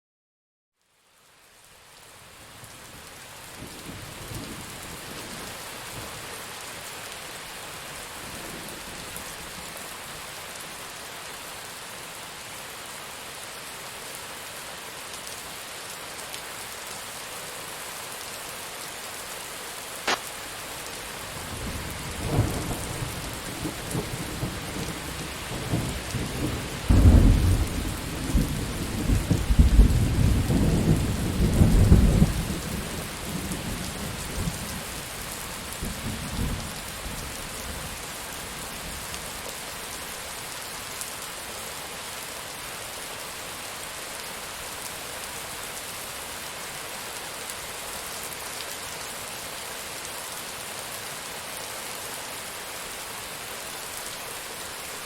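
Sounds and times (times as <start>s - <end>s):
heavy rain: 0.9s - 55.0s.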